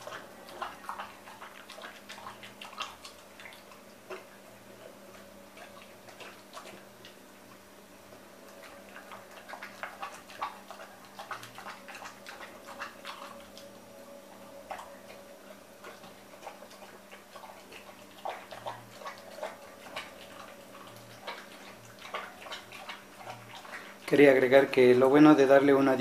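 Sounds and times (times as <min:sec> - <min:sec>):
dog eating from metal bowl: 0:00.0 - 0:07.6, 0:08.4 - 0:26.0.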